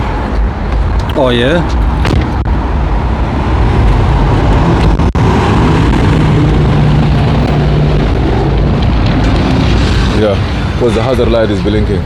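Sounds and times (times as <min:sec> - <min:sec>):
low motor vehicle rumble: 0:00.0 - 0:10.8.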